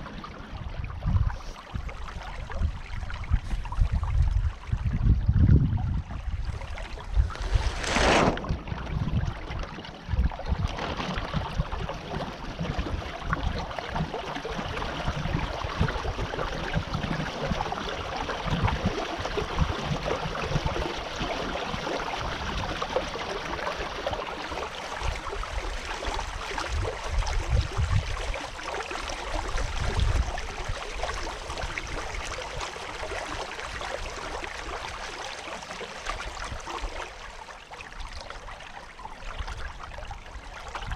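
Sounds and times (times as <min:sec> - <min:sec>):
water rushing along a hull: 0:00.0 - 0:40.9
wind on microphone: 0:00.5 - 0:23.8, 0:24.6 - 0:34.8.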